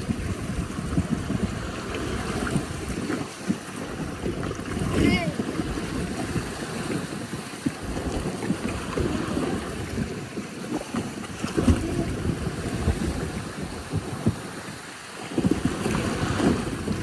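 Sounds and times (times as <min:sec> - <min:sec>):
rushing water on water slide: 0:00.0 - 0:17.0
wind buffeting microphone: 0:00.0 - 0:17.0.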